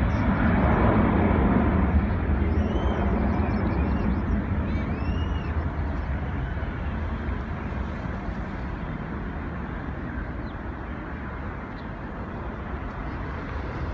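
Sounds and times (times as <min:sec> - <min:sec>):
jet engine rumble: 0:00.0 - 0:13.9.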